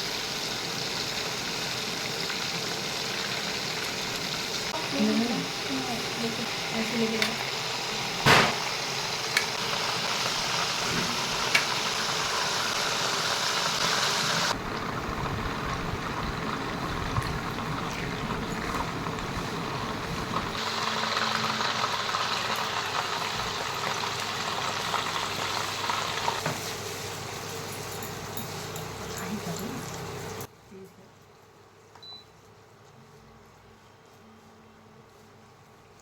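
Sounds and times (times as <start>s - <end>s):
food sizzling in hot oil: 0.0s - 30.5s.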